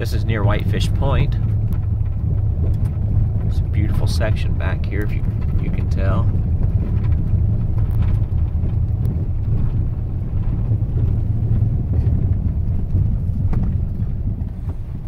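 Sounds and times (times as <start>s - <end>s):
light knocks and rattles: 0.0s - 15.0s
vehicle cabin rumble: 0.0s - 15.0s.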